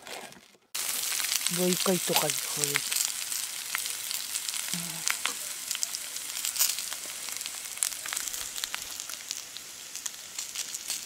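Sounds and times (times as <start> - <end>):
potatoes sizzling in pan: 0.8 - 11.0.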